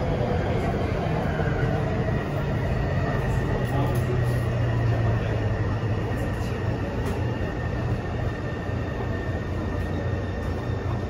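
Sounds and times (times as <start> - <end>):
subway train rumble: 0.0 - 11.0.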